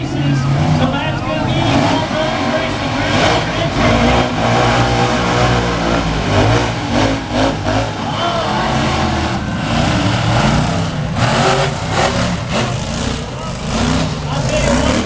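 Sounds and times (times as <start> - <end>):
monster truck engines revving: 0.0 - 15.0.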